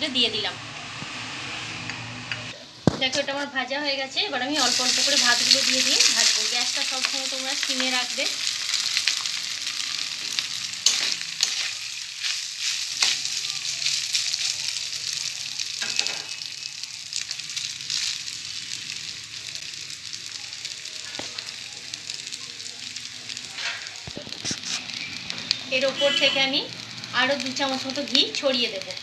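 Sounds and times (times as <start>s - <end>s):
rice sizzling in a pan: 4.4s - 29.0s.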